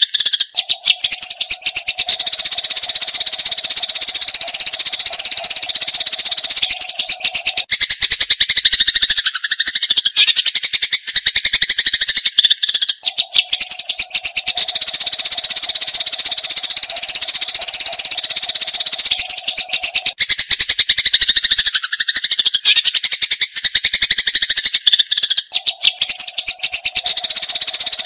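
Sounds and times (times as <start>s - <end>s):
lower wavering chirping: 0.0s - 23.0s, 25.4s - 28.0s
sparrows chattering harshly: 0.0s - 28.0s.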